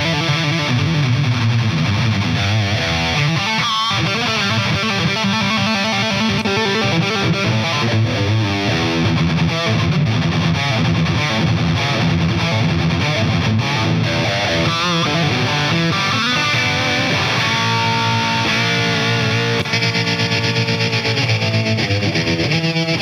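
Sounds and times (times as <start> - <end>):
distorted electric guitar lead: 0.0 - 23.0.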